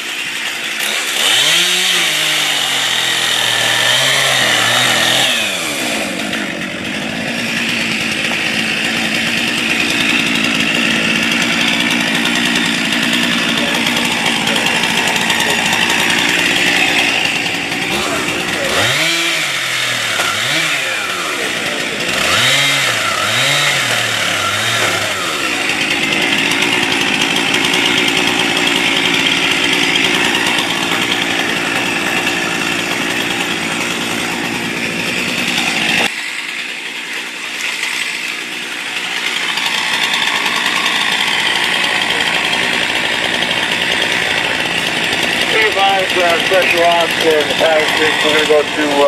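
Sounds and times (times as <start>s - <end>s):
chainsaw revving: 0.0s - 49.0s.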